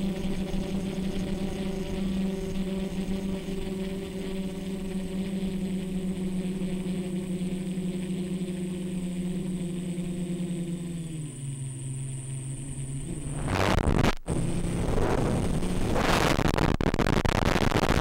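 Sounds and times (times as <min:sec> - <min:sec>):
quadcopter propellers buzzing: 0:00.0 - 0:16.6.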